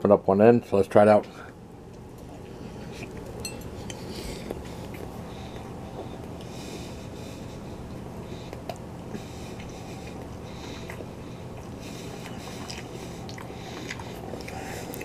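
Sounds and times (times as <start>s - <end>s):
low steady hum: 0.0s - 15.0s
person chewing: 2.0s - 6.6s, 7.5s - 15.0s.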